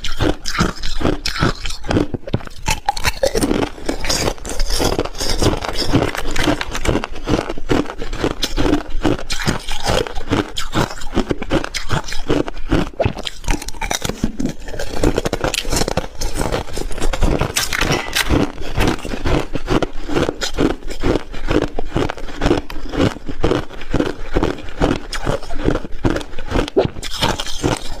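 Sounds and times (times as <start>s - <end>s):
ice crunching while chewing: 0.0s - 28.0s.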